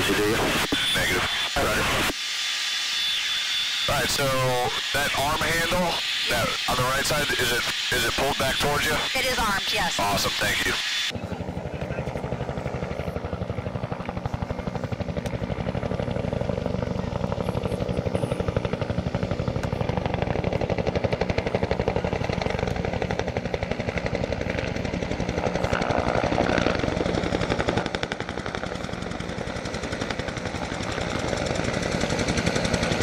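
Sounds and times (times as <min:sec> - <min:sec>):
helicopter rotors chopping: 0:00.0 - 0:02.2, 0:03.0 - 0:33.0.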